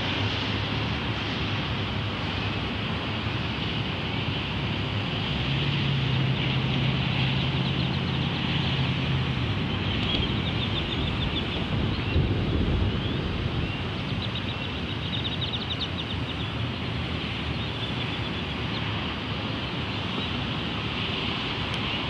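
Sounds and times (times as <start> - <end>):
city traffic din: 0.0 - 22.0.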